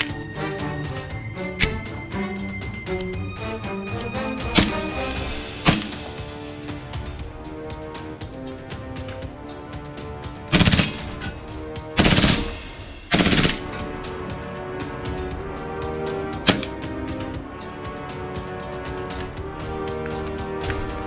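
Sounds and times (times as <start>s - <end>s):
background music with beat: 0.0s - 21.0s.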